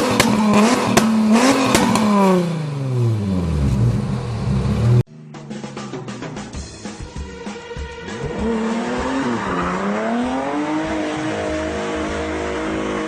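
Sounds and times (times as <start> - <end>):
car engine accelerating: 0.0 - 6.8, 8.0 - 13.0.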